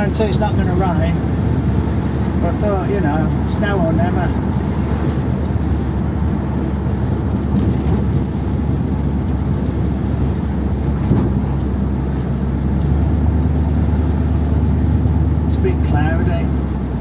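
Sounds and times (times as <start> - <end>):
car engine cruising: 0.0 - 17.0
tyre and road noise: 0.0 - 17.0.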